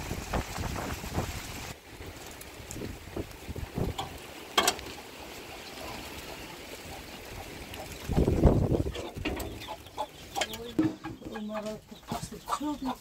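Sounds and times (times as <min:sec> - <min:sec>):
falling rain: 0:00.0 - 0:10.5
trickling water: 0:00.0 - 0:13.0.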